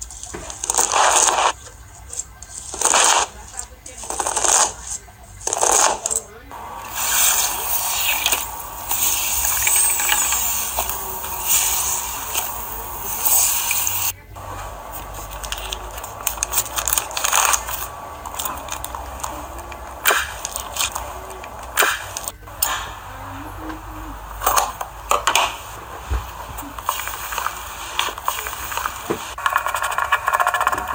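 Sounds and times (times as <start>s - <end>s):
slime squishing: 0.0s - 30.7s
sharp clicks and pops: 4.0s - 30.9s.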